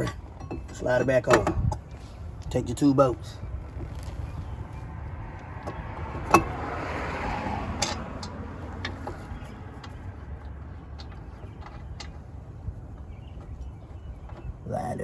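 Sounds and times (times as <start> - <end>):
metal clinks and scraping: 0.0 - 2.3, 3.6 - 6.7, 7.6 - 14.6
steady low rumble: 0.0 - 15.0.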